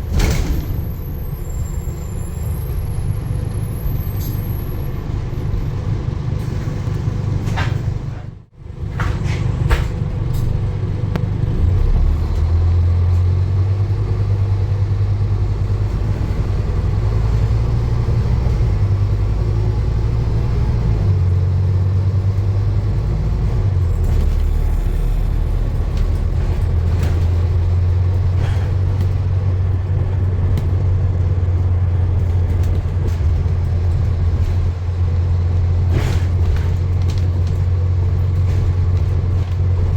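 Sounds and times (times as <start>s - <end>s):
motor vehicle rumble: 0.0s - 39.9s.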